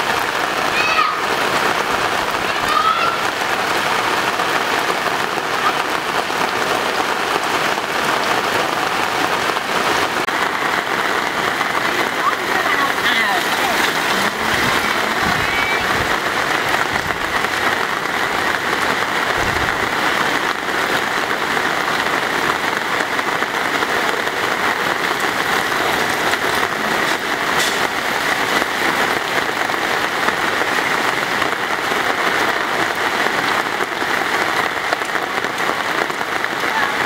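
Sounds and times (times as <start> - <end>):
heavy rain on pavement: 0.0 - 37.0.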